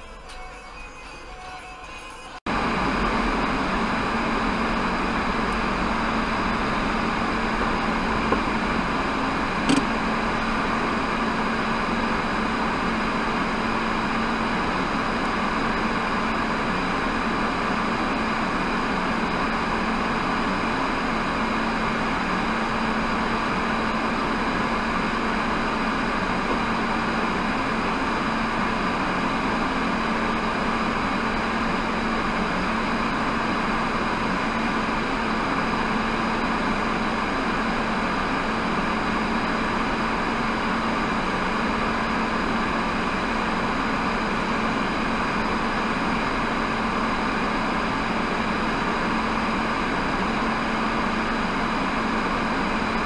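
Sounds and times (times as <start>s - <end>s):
car cabin idling hum: 0.0s - 53.0s.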